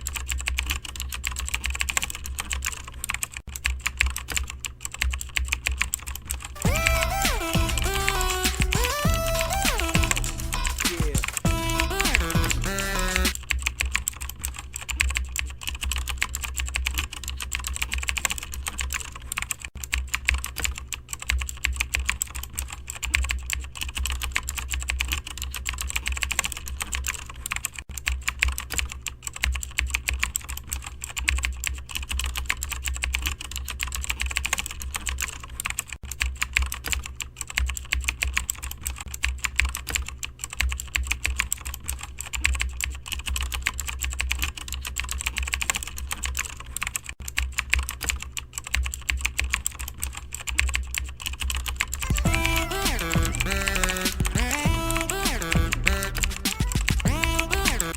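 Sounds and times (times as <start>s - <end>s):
computer keyboard typing: 0.0s - 57.9s.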